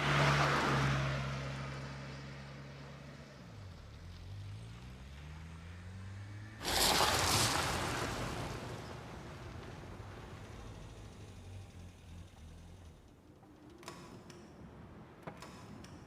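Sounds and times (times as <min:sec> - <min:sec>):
vehicle engine humming: 0:00.0 - 0:15.4.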